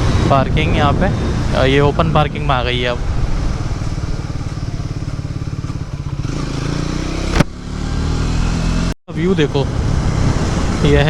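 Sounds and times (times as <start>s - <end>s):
motorcycle engine pulsing: 0.0s - 8.9s.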